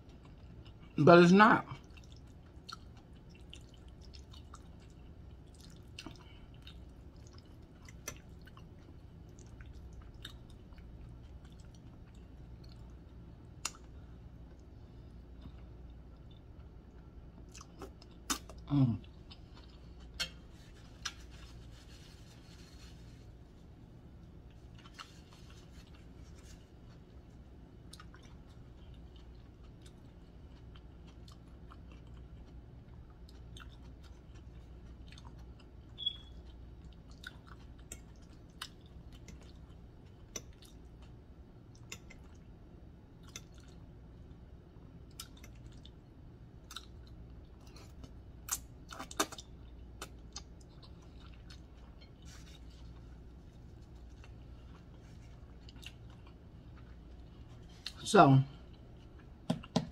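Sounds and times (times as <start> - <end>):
quiet chewing with clicks: 0.0 - 1.0, 1.8 - 21.5, 24.2 - 59.5
faint low hum: 0.0 - 59.9.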